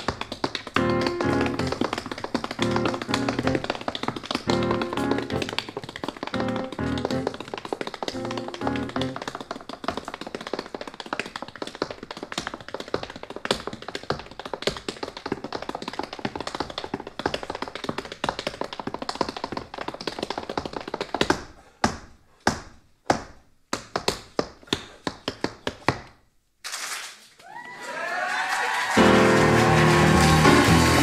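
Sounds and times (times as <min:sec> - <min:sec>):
tap shoes on stage floor: 0:00.0 - 0:26.3.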